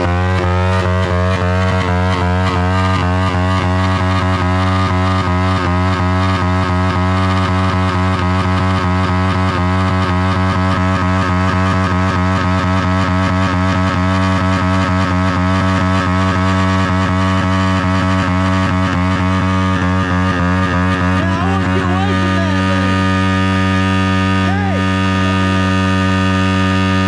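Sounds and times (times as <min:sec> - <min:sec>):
motorbike engine screaming at high revs: 0:00.0 - 0:27.0.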